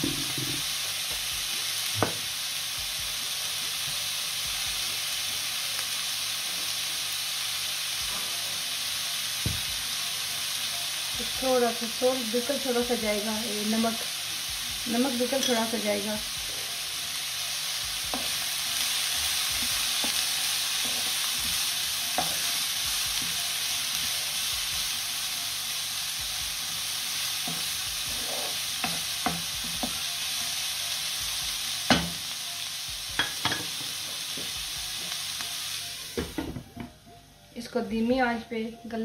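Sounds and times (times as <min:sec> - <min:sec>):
vegetables sizzling in a wok: 0:00.0 - 0:36.9.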